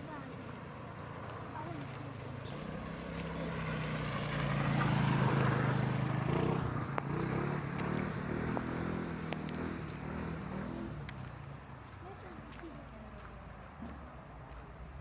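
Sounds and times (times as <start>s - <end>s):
motor vehicle engine running: 0.0s - 14.6s.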